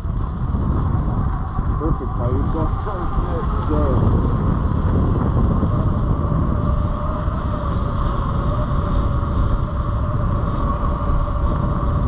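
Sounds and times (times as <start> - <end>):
electric motor whine: 0.0 - 12.0
wind on microphone: 0.0 - 12.0.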